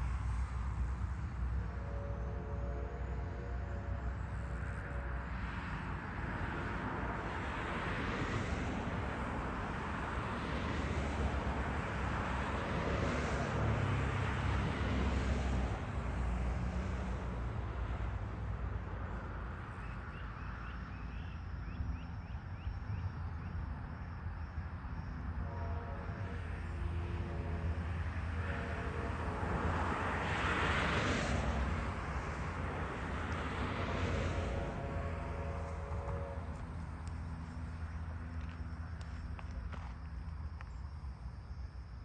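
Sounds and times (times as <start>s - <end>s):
cars passing on highway: 0.0s - 42.0s.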